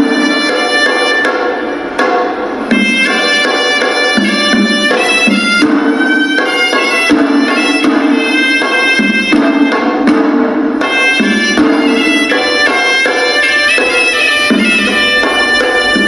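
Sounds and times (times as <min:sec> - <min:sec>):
shrill double-reed pipe melody: 0:00.0 - 0:02.0, 0:02.6 - 0:10.1, 0:10.8 - 0:16.0
steady drum strokes: 0:00.0 - 0:16.0.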